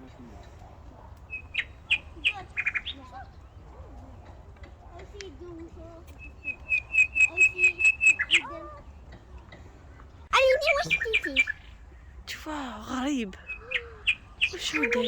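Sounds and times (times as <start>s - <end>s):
bird squawking calls: 0.0s - 9.5s, 10.4s - 12.2s, 13.4s - 15.0s
birds chirping: 0.0s - 15.0s.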